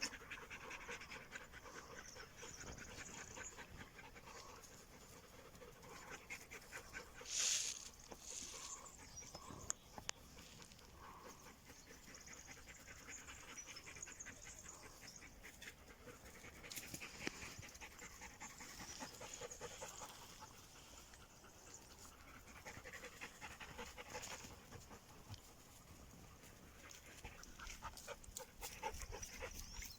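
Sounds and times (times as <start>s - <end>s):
dog panting: 0.0s - 29.9s.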